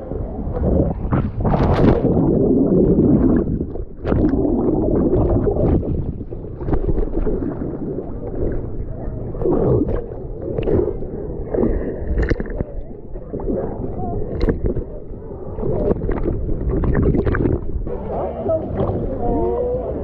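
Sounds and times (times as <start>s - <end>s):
water sloshing and gurgling: 0.0s - 20.0s
water splashes: 0.0s - 20.0s.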